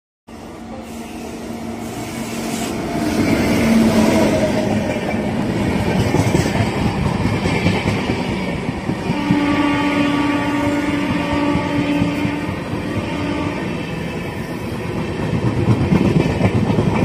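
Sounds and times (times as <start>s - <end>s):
train coaches rushing by: 0.3s - 17.0s
locomotive passing at speed: 0.4s - 17.0s.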